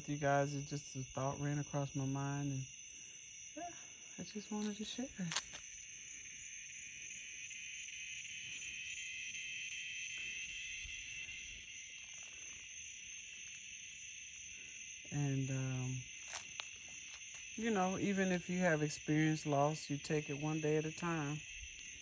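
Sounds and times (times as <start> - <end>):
night insects chorus: 0.0 - 22.0.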